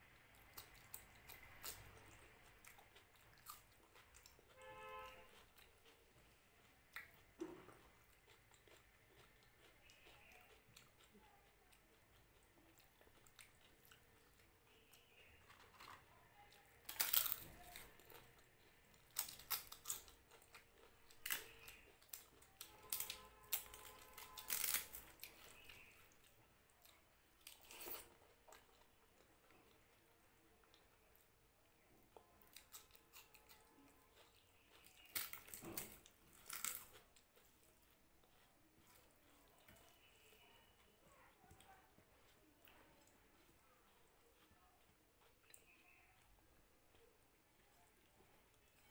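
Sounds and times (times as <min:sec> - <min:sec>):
soft chewing: 0:00.0 - 0:48.9.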